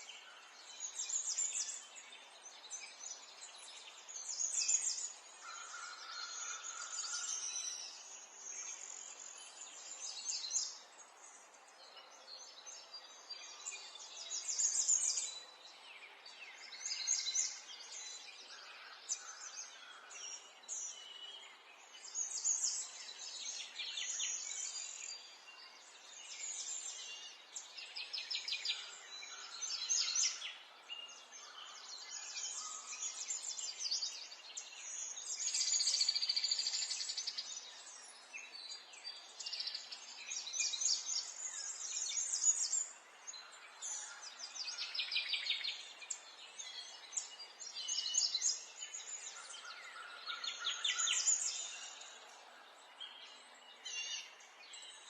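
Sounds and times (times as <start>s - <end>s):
faint outdoor hiss: 0.0s - 55.0s
songbirds chirping and trilling: 0.0s - 55.0s.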